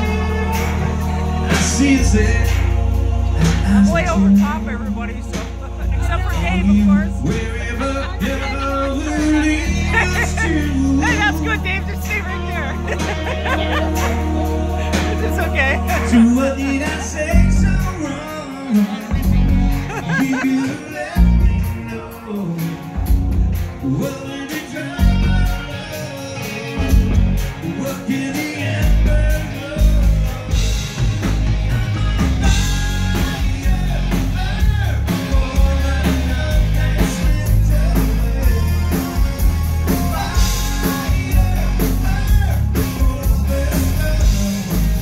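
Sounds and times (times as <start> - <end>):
live rock band playing: 0.0 - 45.0
man singing: 0.0 - 45.0.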